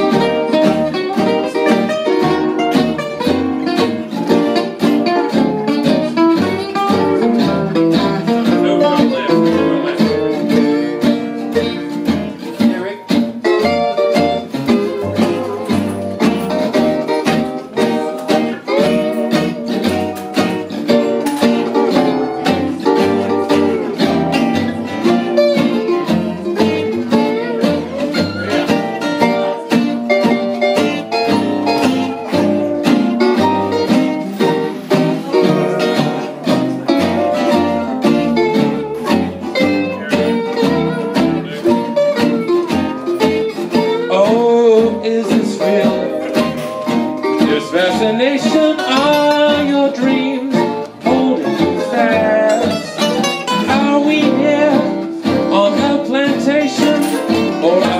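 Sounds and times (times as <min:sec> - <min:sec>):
acoustic guitars strumming: 0:00.0 - 0:57.9
mandolin picking: 0:00.0 - 0:57.9
plucked upright bass: 0:00.0 - 0:57.9.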